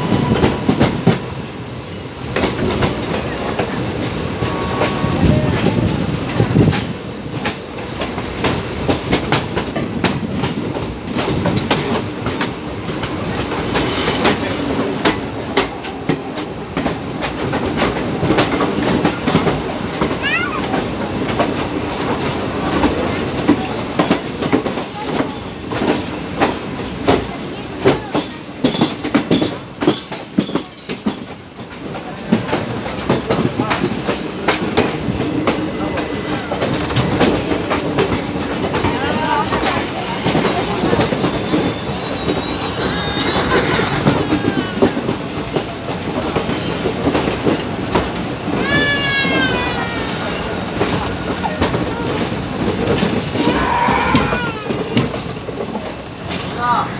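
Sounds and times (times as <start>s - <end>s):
train rushing rumble: 0.0s - 56.9s
train wheels clattering over rail joints: 0.0s - 56.9s.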